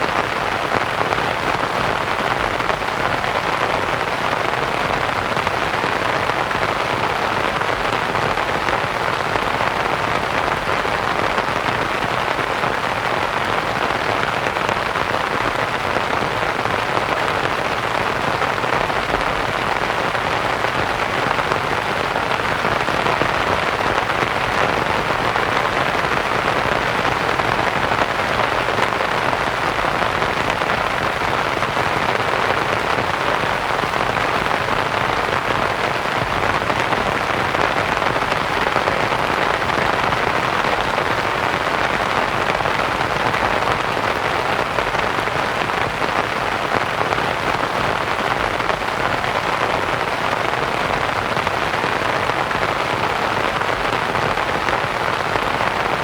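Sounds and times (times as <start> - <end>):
rain on a canvas tent: 0.0 - 56.0
white noise hiss: 0.0 - 56.0.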